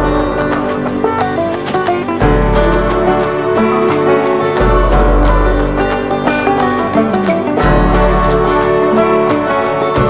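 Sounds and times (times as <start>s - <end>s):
acoustic guitar: 0.0s - 10.0s
banjo: 0.0s - 10.0s.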